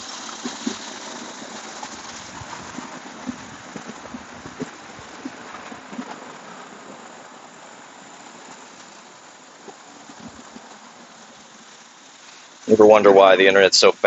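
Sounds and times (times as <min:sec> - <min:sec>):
walking through tall grass: 0:00.0 - 0:13.3
steady outdoor hiss: 0:00.0 - 0:14.0.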